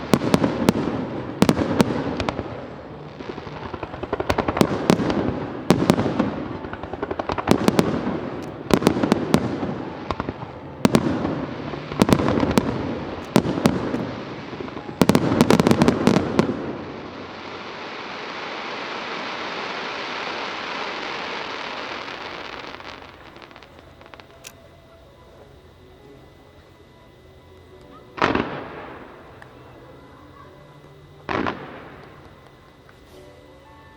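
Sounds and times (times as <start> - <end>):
fireworks bursting: 0.0 - 33.9.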